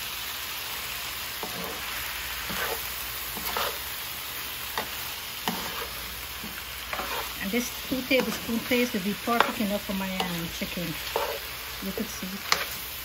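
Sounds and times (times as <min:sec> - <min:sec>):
food sizzling in a frying pan: 0:00.0 - 0:13.0
metal spoon scraping a pan: 0:01.4 - 0:04.0, 0:04.8 - 0:12.9.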